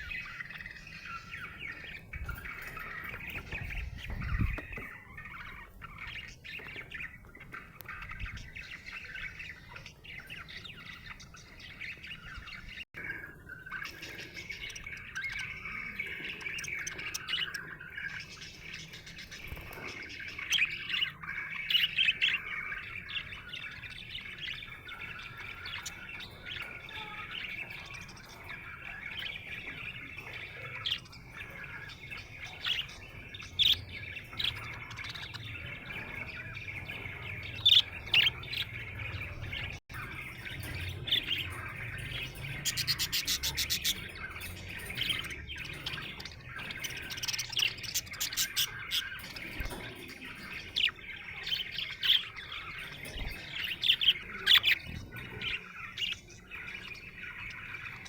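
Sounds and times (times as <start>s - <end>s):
budgerigar chirping and warbling: 0.0s - 58.0s.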